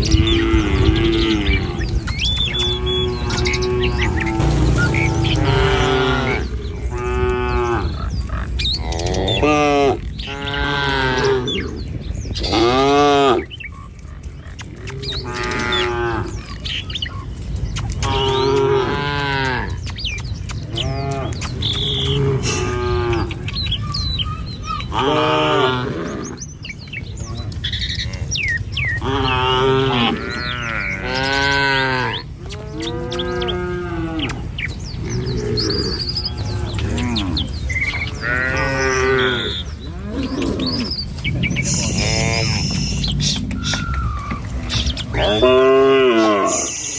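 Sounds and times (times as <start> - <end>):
cattle mooing: 0.0 - 11.8, 14.8 - 16.7, 18.0 - 19.8, 20.7 - 23.5, 24.9 - 26.5, 27.2 - 46.9
steady low rumble: 0.0 - 24.9, 26.3 - 45.5.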